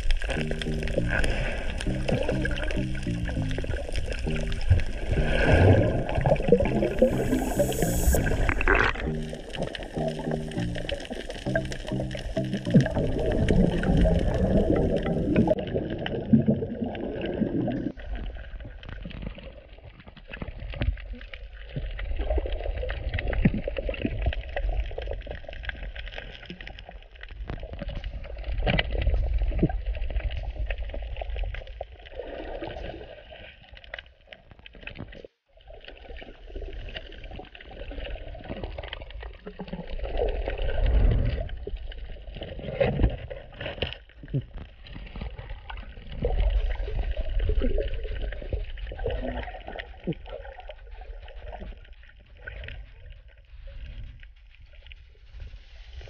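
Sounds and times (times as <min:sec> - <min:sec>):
low underwater rumbles: 0:00.0 - 0:33.2, 0:35.6 - 0:56.0
water moving and gurgling: 0:00.0 - 0:56.0.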